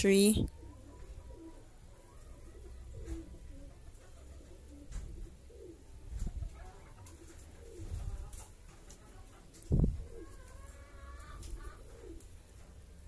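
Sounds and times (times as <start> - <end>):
dove cooing: 0.5 - 13.0.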